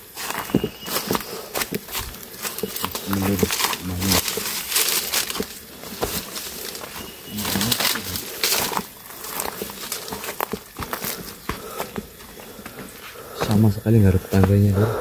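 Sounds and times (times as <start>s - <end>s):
footsteps crunching through undergrowth: 0.0s - 14.7s.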